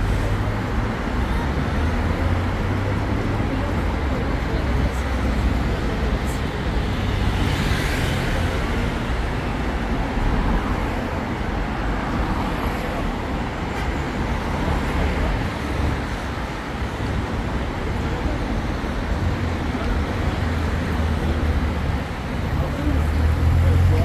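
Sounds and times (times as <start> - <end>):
passing cars hum: 0.0 - 24.0.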